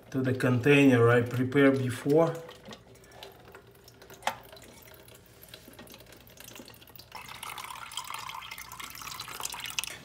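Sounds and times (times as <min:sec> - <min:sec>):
water trickling into container: 0:01.1 - 0:10.0.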